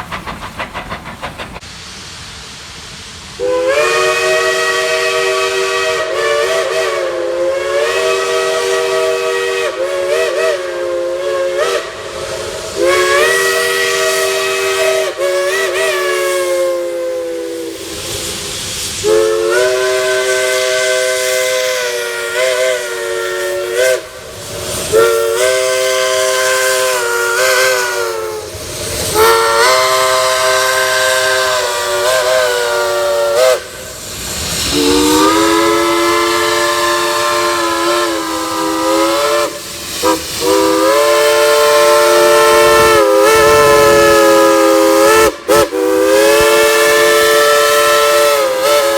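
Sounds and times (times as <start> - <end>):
steam hissing: 0.0 - 48.9
steam locomotive chime whistle: 3.4 - 24.2, 24.8 - 48.9.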